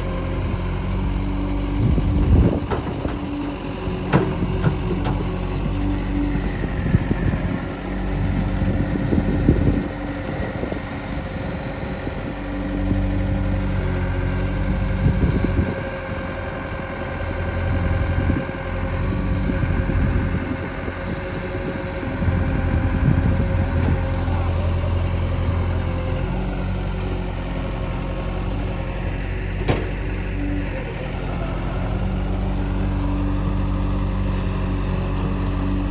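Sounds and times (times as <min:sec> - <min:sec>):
diesel engines running: 0:00.0 - 0:35.9.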